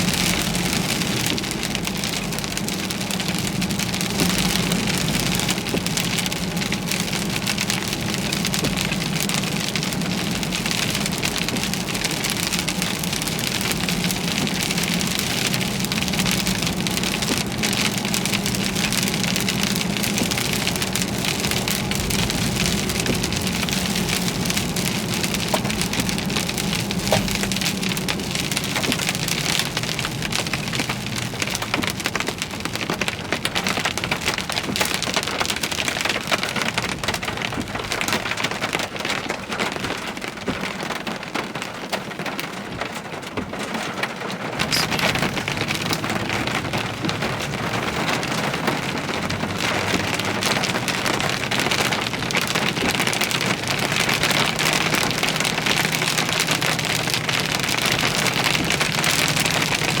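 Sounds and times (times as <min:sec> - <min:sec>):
heavy rain pelting down: 0:00.0 - 1:00.0.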